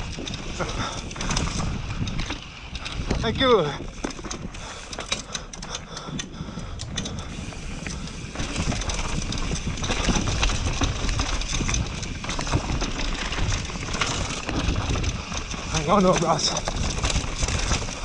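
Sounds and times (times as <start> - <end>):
bike rattling: 0.0 - 18.0
bike tyres rolling over dirt: 0.0 - 18.0.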